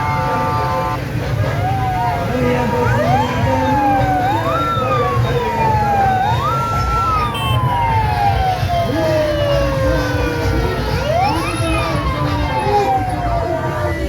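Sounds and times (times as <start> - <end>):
low rumble of traffic and crowd: 0.0 - 14.0
sirens wailing: 0.0 - 14.0.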